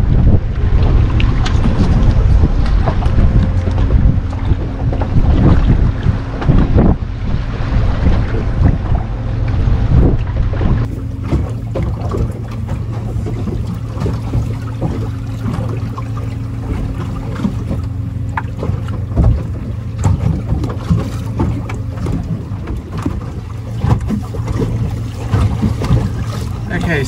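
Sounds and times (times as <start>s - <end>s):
low hum: 0.0s - 27.0s
wind noise: 0.0s - 27.0s
knocks on boat: 0.8s - 7.0s, 7.9s - 27.0s.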